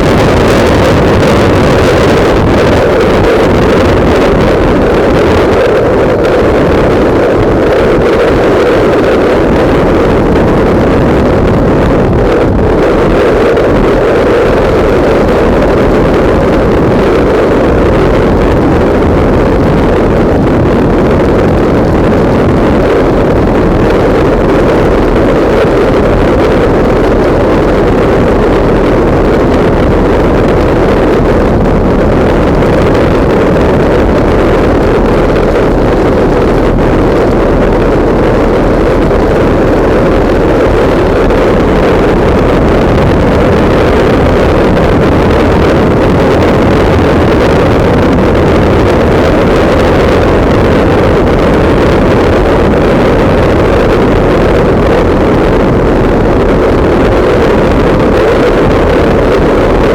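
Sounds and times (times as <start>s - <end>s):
motorcycle engine drone: 0.0s - 59.9s
wind buffeting microphone: 0.0s - 59.9s.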